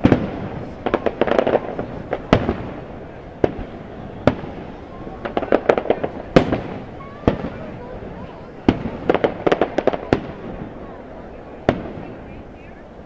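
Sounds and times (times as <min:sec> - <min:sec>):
fireworks bangs: 0:00.0 - 0:13.0
fireworks crackling pops: 0:00.0 - 0:13.0.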